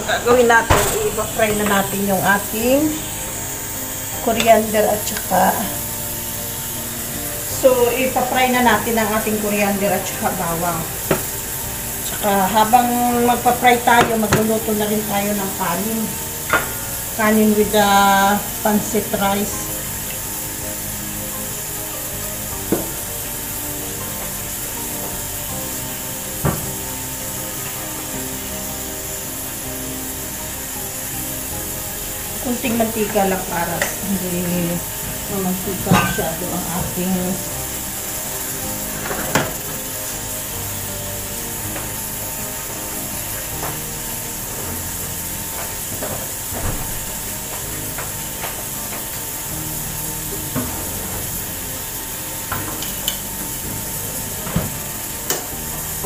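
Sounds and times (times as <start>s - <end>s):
background music: 0.0s - 56.0s
steady hiss: 0.0s - 56.0s.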